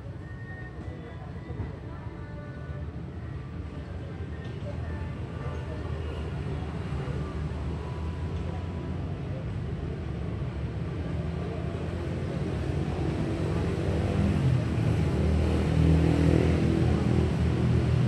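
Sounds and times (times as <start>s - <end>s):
background traffic noise: 0.0s - 18.0s.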